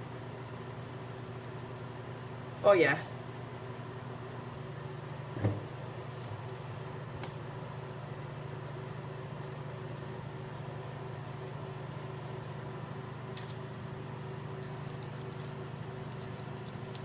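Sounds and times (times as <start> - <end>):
mechanical fan hum: 0.0 - 17.0.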